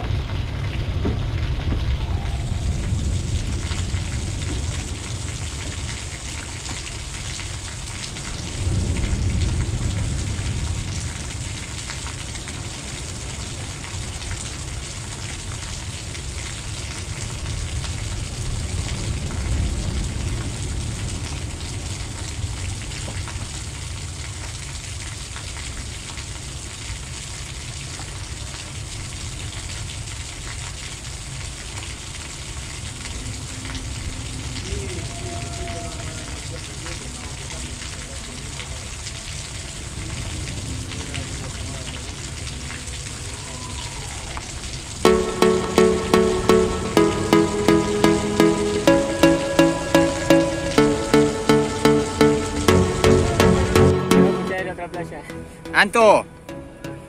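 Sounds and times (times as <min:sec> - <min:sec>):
heavy rain falling: 0:00.0 - 0:54.6.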